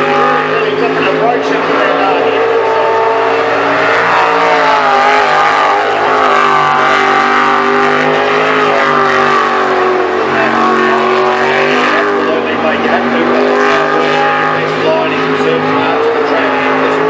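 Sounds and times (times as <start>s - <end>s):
boat engine running hard: 0.0s - 17.0s.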